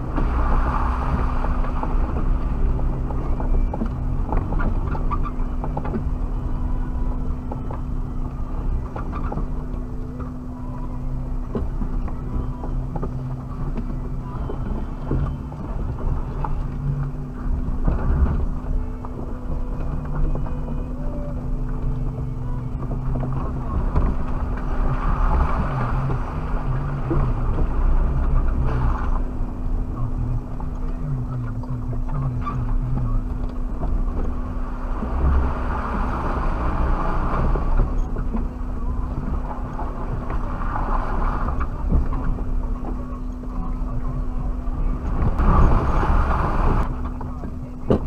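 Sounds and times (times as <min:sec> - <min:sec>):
car engine at low revs: 0:00.0 - 0:48.0
tyres and body rumbling: 0:00.0 - 0:48.0.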